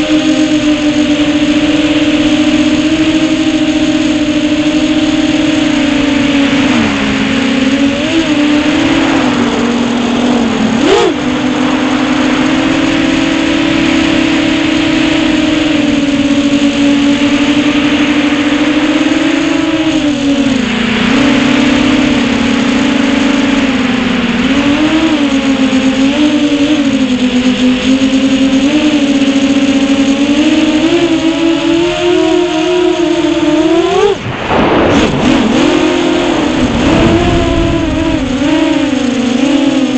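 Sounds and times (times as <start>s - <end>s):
prop wash and wind hiss: 0.0s - 27.4s, 32.7s - 39.9s
quadcopter motors whining: 0.0s - 39.9s.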